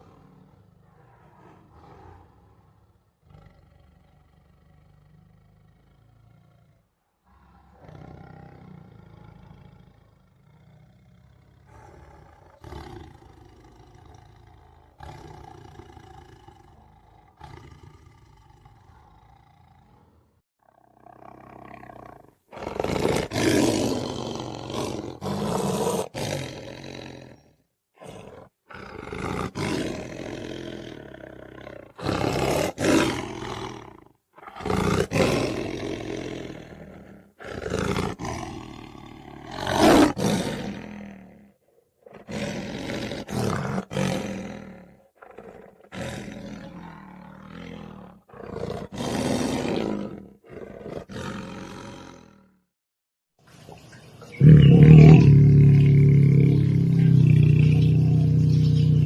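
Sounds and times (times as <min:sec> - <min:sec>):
tiger roaring: 0:00.0 - 0:52.7, 0:54.4 - 0:59.0.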